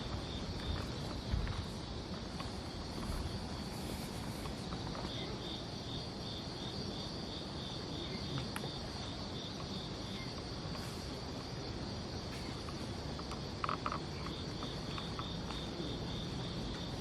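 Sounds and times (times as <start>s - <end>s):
crickets trilling: 0.0s - 17.0s
pulsing insect chirp: 0.0s - 17.0s.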